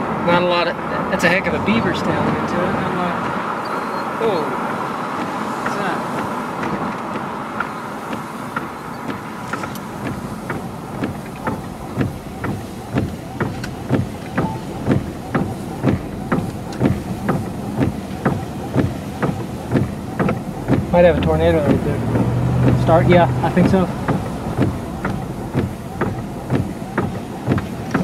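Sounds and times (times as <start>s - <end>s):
car driving: 0.0s - 28.0s
tyres thumping over road joints: 1.1s - 28.0s.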